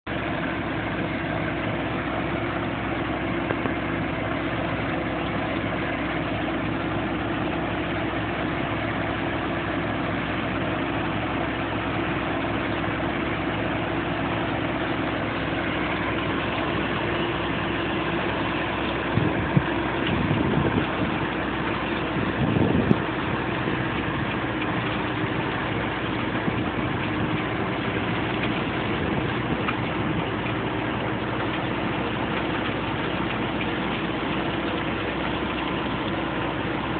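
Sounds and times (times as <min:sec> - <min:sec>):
combine harvester running: 0:00.1 - 0:36.9.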